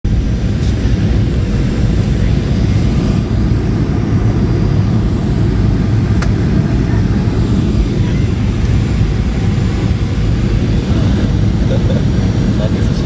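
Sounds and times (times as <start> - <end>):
airliner cabin rumble: 0.1 - 13.0.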